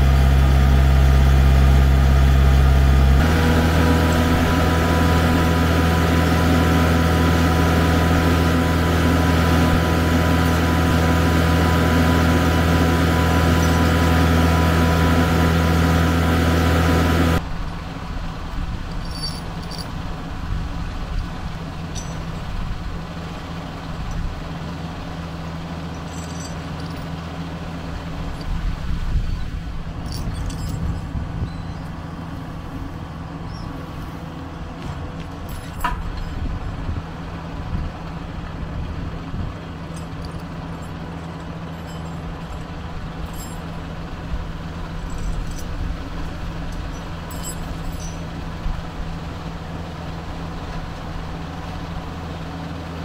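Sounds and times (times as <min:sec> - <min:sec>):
tractor diesel engine idling: 0:00.0 - 0:53.0.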